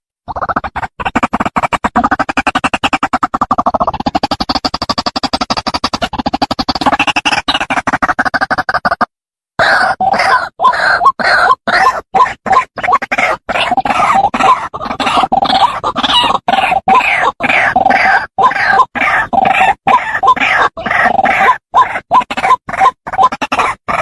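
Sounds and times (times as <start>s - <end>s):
bird harsh grunting calls: 0.3s - 24.0s.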